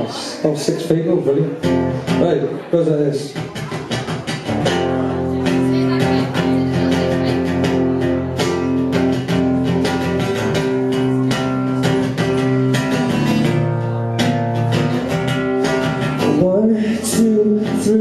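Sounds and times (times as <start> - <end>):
guitar strumming chords: 1.2 - 2.7, 3.4 - 18.0.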